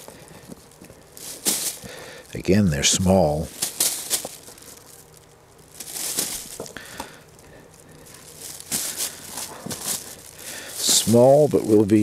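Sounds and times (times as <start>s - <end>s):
plastic bag rustling: 0.0s - 12.0s
potatoes knocking landing: 0.0s - 12.0s.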